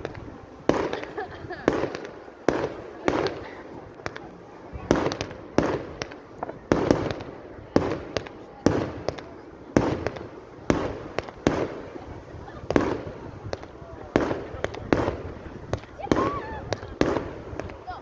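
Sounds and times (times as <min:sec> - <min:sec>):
firework shells bursting: 0:00.0 - 0:17.9
small firework cracks: 0:00.0 - 0:18.0.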